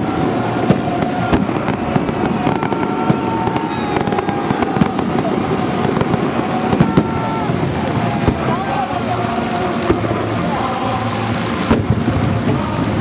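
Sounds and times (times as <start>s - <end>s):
firework bangs and pops: 0.0s - 8.6s, 9.8s - 10.3s, 11.6s - 13.0s
steady loud din: 0.0s - 13.0s.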